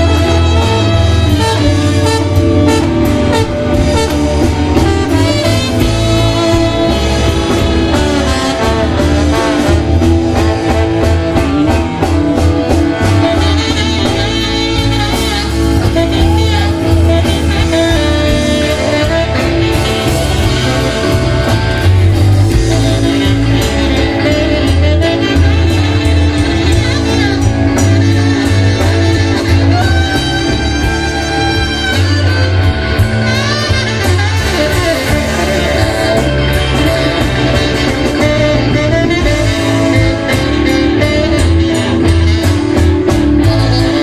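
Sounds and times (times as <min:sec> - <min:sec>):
drums: 0:00.0 - 0:44.0
electric bass guitar: 0:00.0 - 0:44.0
electric guitar: 0:00.0 - 0:44.0
saxophone: 0:00.0 - 0:44.0
trombone: 0:00.0 - 0:44.0
trumpet: 0:00.0 - 0:44.0.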